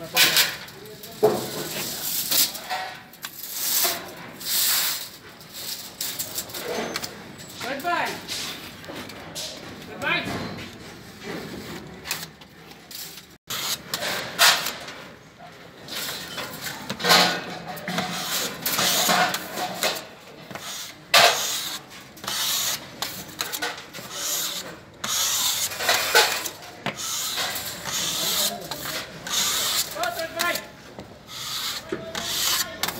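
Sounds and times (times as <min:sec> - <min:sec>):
drywall tools scraping: 0:00.1 - 0:14.9, 0:15.8 - 0:32.9.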